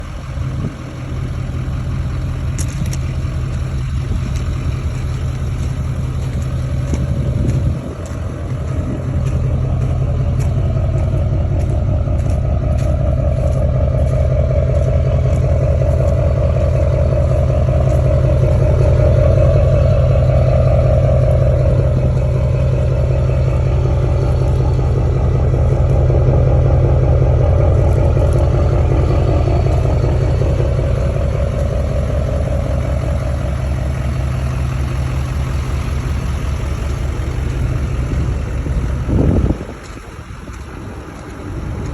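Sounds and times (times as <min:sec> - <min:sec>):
diesel truck exhaust rumble: 0:00.0 - 0:41.9.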